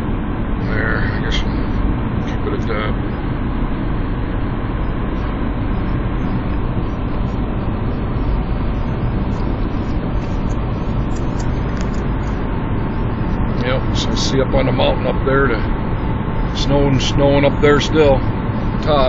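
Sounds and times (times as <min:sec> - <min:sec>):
road and engine noise in car: 0:00.0 - 0:19.0.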